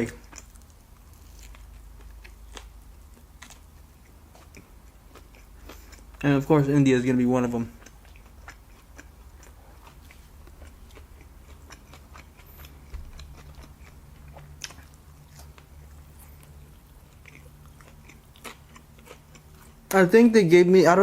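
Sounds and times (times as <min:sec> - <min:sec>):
person chewing food: 0:00.0 - 0:06.2, 0:07.6 - 0:20.0.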